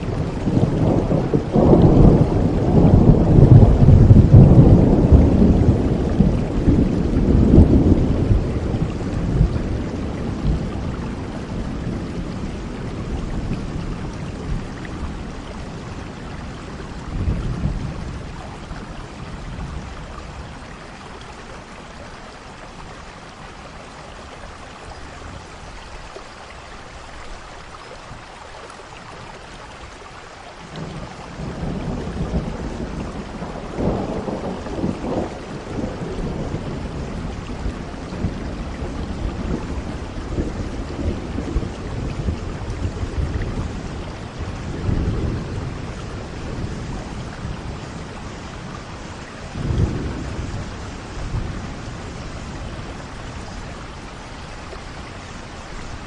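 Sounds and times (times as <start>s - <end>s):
rolling thunder rumble: 0.0s - 21.8s, 30.7s - 56.0s
steady rain: 0.0s - 56.0s.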